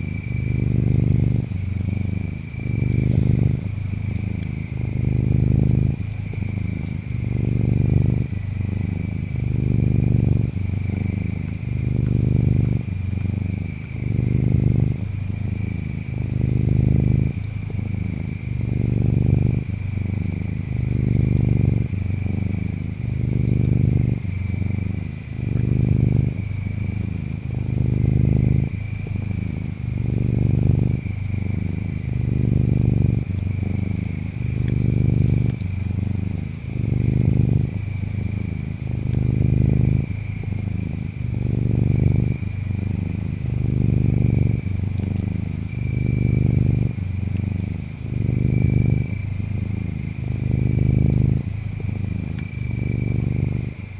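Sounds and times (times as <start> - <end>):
cat purring: 0.0 - 53.9
insects chirring: 0.0 - 53.9.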